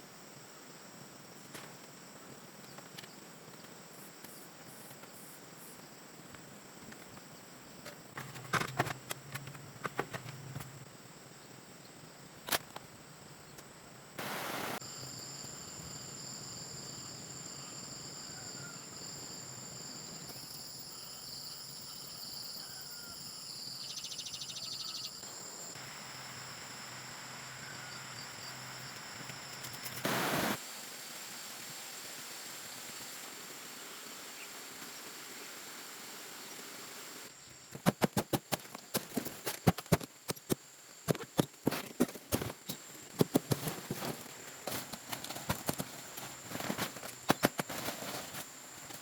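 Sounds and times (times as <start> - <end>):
insects chirring: 0.3 - 30.6, 37.3 - 49.0.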